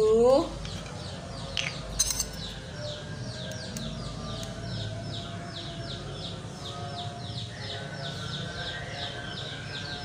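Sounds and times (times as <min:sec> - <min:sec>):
bird chirping: 0:00.5 - 0:10.0.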